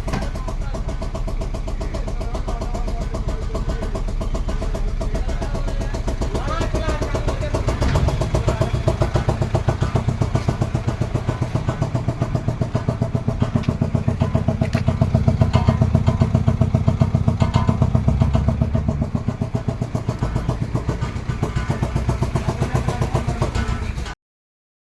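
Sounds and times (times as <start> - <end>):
car engine running: 0.0 - 24.2.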